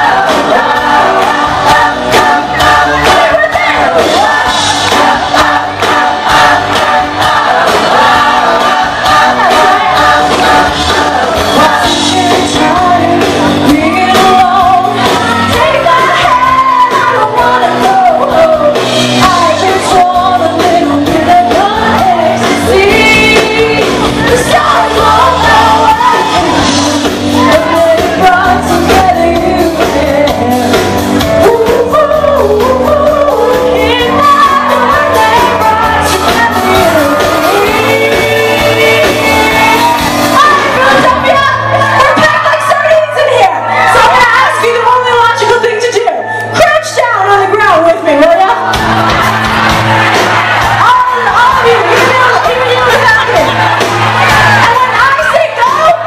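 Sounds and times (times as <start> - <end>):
woman singing into microphone: 0.0 - 48.7, 50.8 - 56.0
live band playing pop-rock: 0.0 - 56.0.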